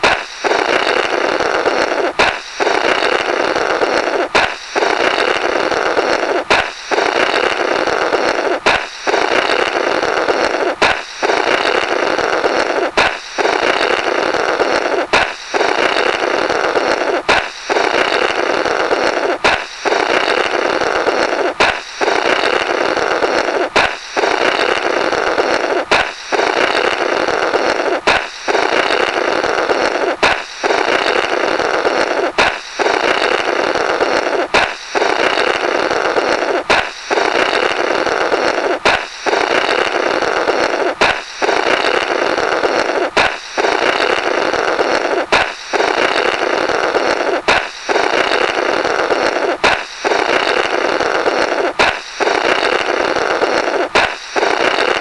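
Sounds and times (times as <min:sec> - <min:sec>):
balloon pop: 0:00.0 - 0:42.1, 0:42.8 - 0:44.2, 0:44.8 - 0:46.4, 0:47.0 - 0:48.6, 0:49.3 - 0:55.0
rough blow through burst balloon: 0:00.0 - 0:55.0.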